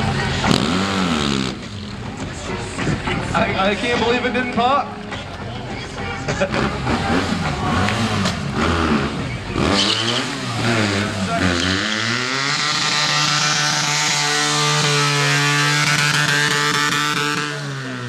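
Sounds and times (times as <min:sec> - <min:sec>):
motorcycle engine revving: 0:00.0 - 0:02.9, 0:06.2 - 0:18.0.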